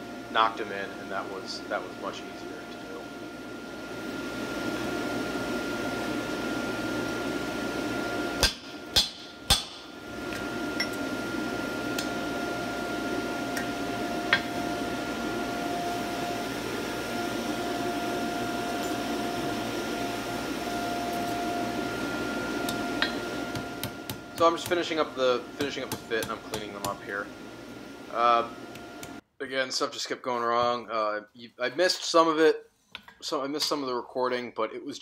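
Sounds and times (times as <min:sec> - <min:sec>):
steady tonal hum: 0:00.0 - 0:29.2.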